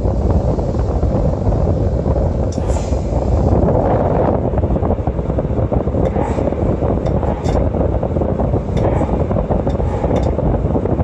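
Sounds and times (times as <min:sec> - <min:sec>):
air conditioner fan rushing: 0:00.0 - 0:11.0
airflow buffeting microphone: 0:00.0 - 0:11.0.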